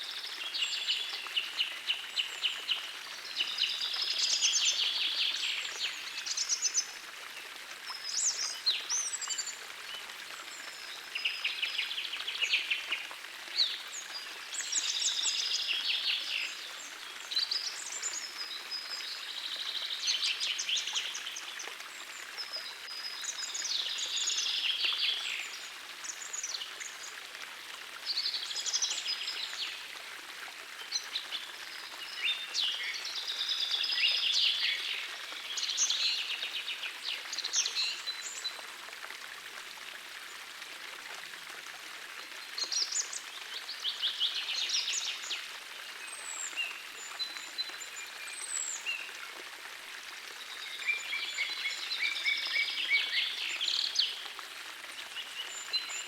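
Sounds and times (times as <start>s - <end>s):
gentle stream rushing: 0.0s - 56.0s.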